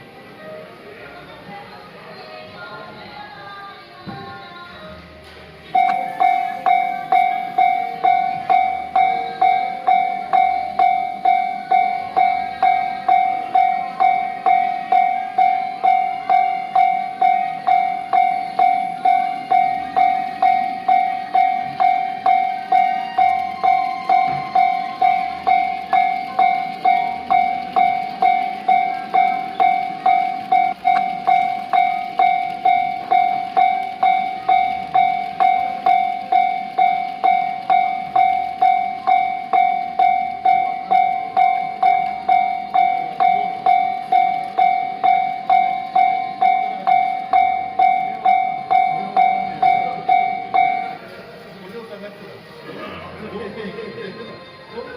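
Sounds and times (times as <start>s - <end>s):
level-crossing warning bell ringing: 5.6s - 52.5s
model train wheels clicking on track: 5.7s - 52.6s.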